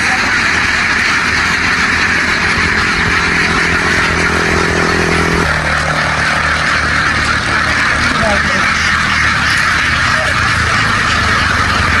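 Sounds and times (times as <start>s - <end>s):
continuous dense din: 0.0s - 12.0s
motor engine running: 0.0s - 12.0s.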